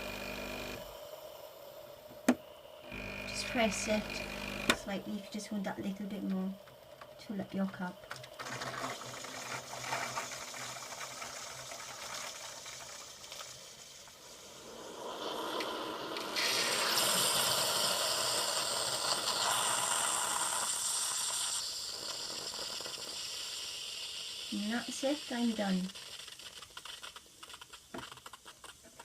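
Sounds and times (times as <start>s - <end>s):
coffee machine pump running: 0.0s - 1.0s, 2.1s - 6.5s, 7.2s - 29.0s
coffee machine hiss: 0.0s - 6.5s, 7.3s - 29.0s.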